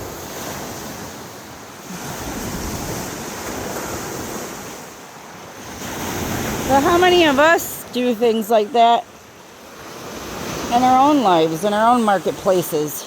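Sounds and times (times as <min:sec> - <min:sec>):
surf waves rushing: 0:00.0 - 0:13.0.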